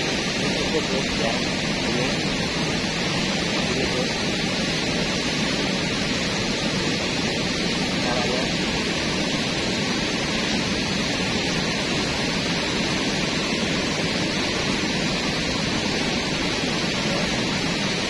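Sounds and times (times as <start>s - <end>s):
loud rumbling rushing noise: 0.0s - 18.0s.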